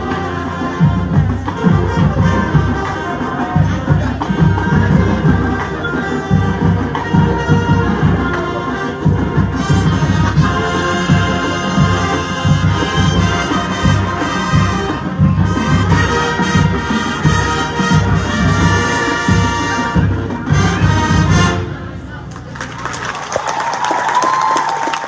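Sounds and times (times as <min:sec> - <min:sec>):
low drum beats: 0:00.0 - 0:22.2
brass chords: 0:00.0 - 0:22.3
marching band playing: 0:00.0 - 0:25.0.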